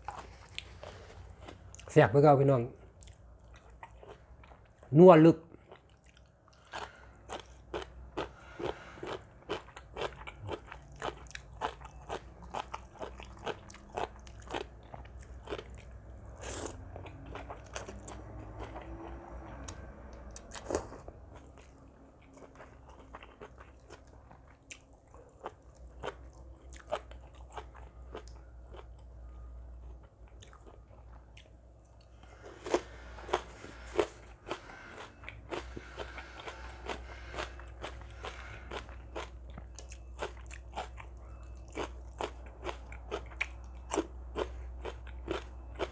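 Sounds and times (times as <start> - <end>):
person crunching and chewing food: 0.0 - 1.9, 2.8 - 4.9, 5.5 - 45.9.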